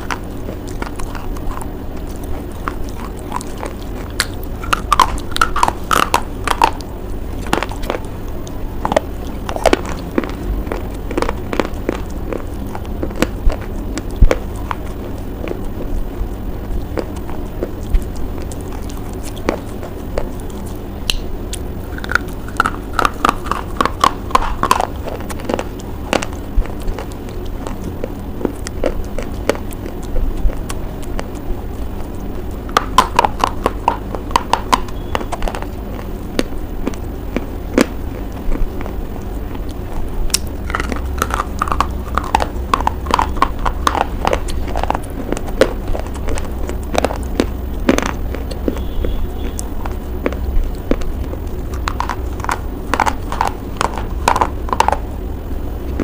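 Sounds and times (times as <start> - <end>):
crunching and chewing: 0.0 - 56.0.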